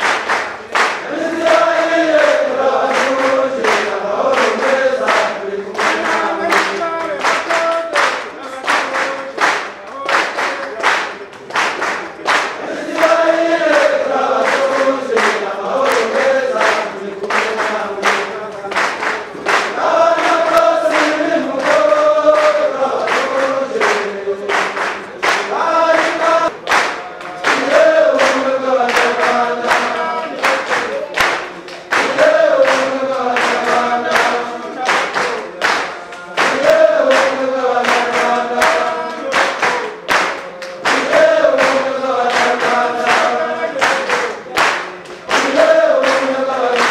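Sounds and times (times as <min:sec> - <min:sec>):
rhythmic hand-clapping: 0:00.0 - 0:46.9
choir singing: 0:00.7 - 0:08.8, 0:12.6 - 0:46.9.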